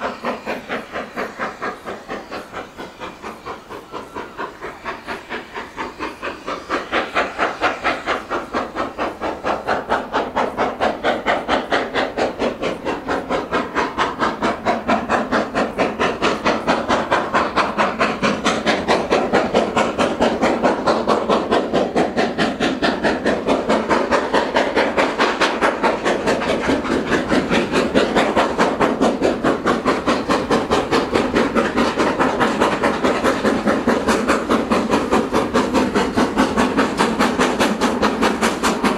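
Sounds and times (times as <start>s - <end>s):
steam locomotive exhaust beats: 0.0s - 38.9s.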